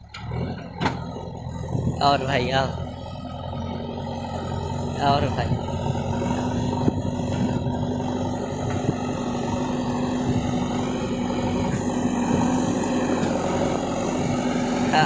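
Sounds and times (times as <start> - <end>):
backhoe diesel engine droning: 0.0 - 15.0.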